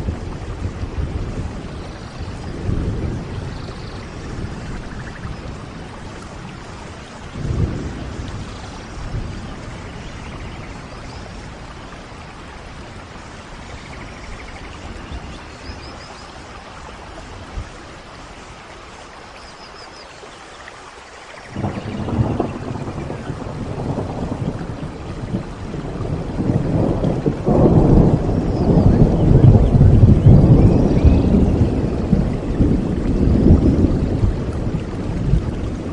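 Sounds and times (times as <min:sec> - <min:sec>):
rumble of thunder: 0:00.0 - 0:18.6, 0:21.4 - 0:35.9
steady rain falling: 0:00.0 - 0:35.9.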